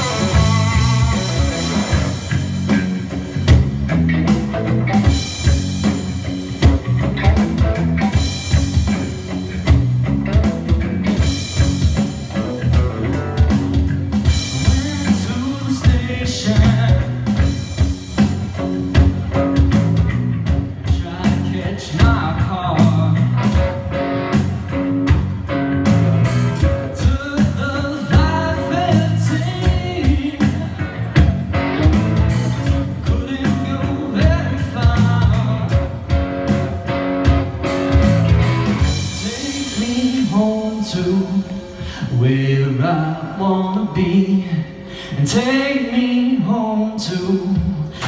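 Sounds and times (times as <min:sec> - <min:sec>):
drum kit: 0:00.0 - 0:42.5
bass guitar: 0:00.0 - 0:48.0
electric guitar: 0:00.0 - 0:48.0.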